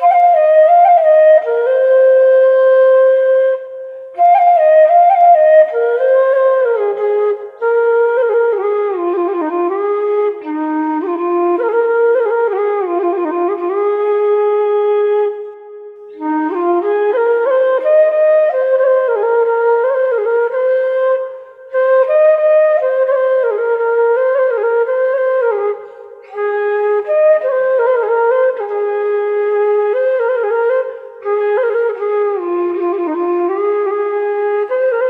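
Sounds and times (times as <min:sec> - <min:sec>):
wind instrument melody: 0:00.0 - 0:35.0.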